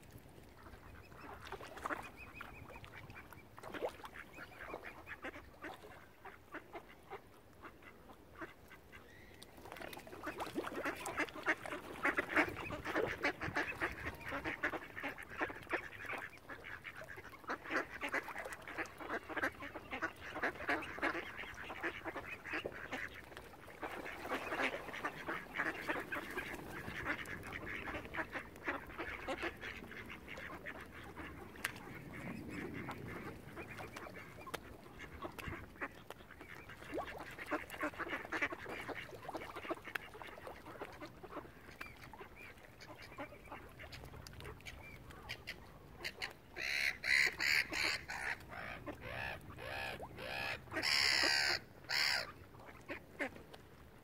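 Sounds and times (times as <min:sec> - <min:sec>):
ducks quacking: 0:00.6 - 0:09.2, 0:09.9 - 0:53.4.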